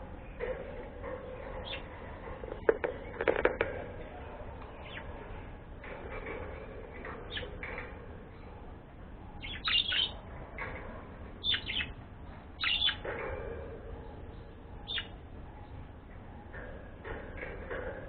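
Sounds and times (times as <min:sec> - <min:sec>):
bird chirping: 0:00.0 - 0:03.4, 0:04.1 - 0:05.6, 0:06.8 - 0:18.0.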